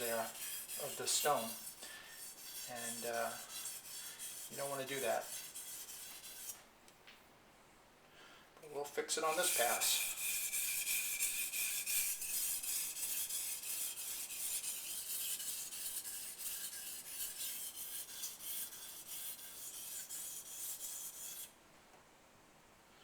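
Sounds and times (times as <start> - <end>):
knife scraping on whetstone: 0.0 - 6.6, 9.2 - 21.5.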